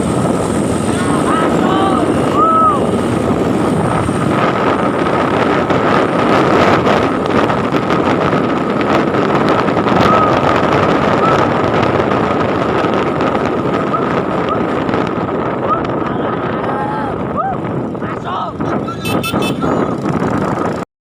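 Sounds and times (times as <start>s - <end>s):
truck engine and road noise: 0.0s - 20.8s
wind buffeting microphone: 0.0s - 20.8s.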